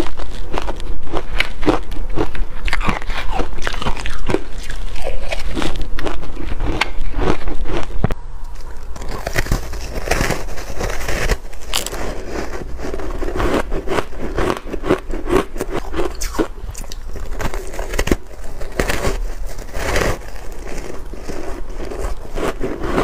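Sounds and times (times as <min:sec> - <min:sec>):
crunching and chewing shaved ice: 0:00.0 - 0:23.0.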